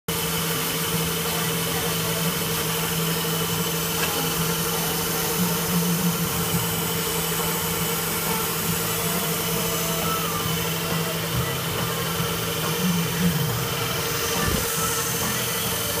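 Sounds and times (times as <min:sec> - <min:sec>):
grinder machine hum and whine: 0:00.1 - 0:16.0
grinding wheel hissing on steel: 0:00.1 - 0:16.0.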